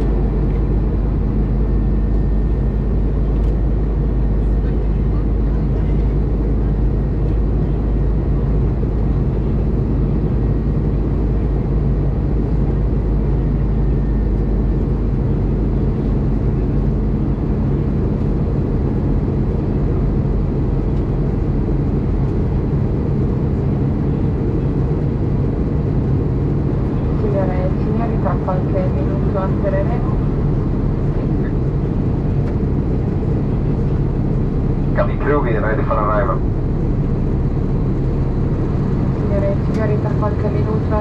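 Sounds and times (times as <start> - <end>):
airliner cabin engine rumble: 0.0 - 41.0
steady hum: 0.0 - 41.0.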